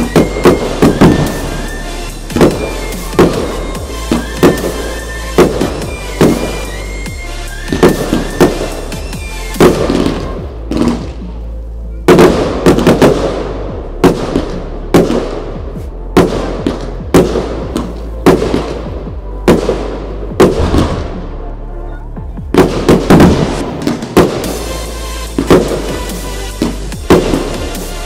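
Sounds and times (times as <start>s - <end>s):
fireworks bursting with sharp bangs: 0.0s - 21.4s, 22.3s - 28.0s.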